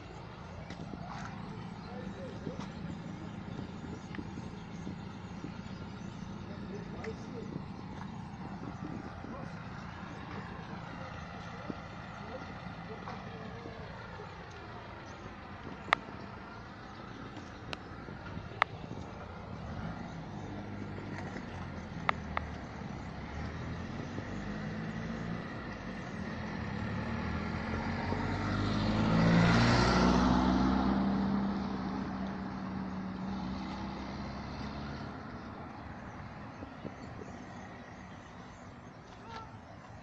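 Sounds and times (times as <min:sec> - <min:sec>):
vehicle driving past: 0:00.0 - 0:39.8.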